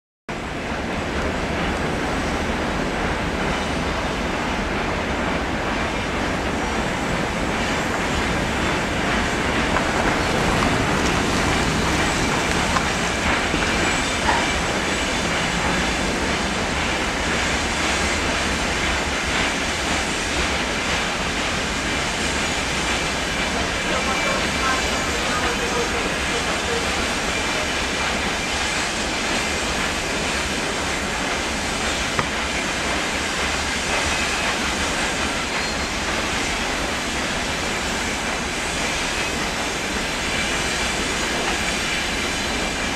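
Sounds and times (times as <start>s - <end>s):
freight train wheels clattering: 1.6s - 42.9s.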